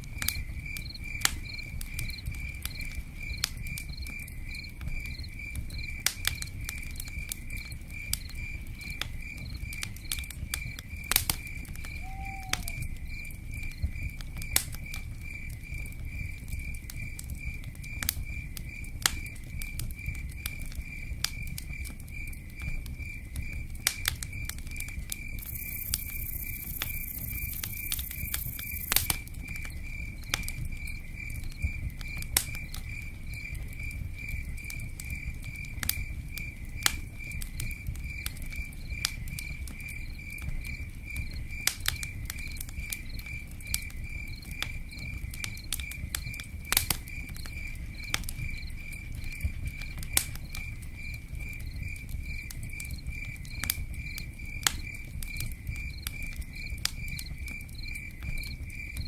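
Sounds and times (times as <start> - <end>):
campfire crackling and popping: 0.0 - 59.0
cricket chirping: 0.0 - 59.0.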